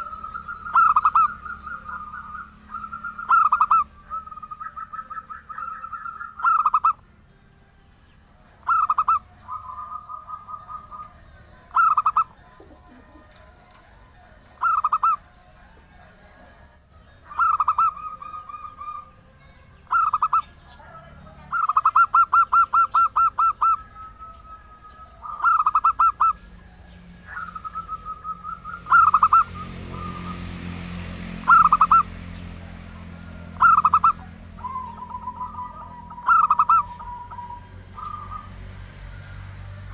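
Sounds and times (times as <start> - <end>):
dove stuttering coos: 0.0 - 7.0, 8.6 - 19.2, 19.8 - 39.9.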